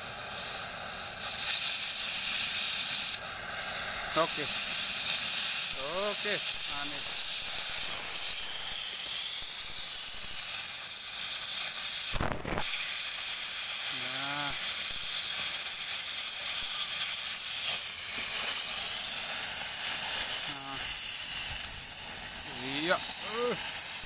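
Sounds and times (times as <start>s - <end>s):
cutting torch hissing: 0.0s - 24.0s.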